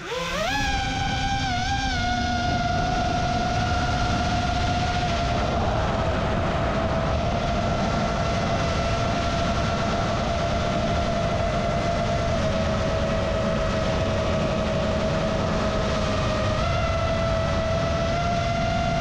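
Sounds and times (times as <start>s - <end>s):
drone propellers whining: 0.0s - 19.0s
wind on microphone: 0.0s - 19.0s.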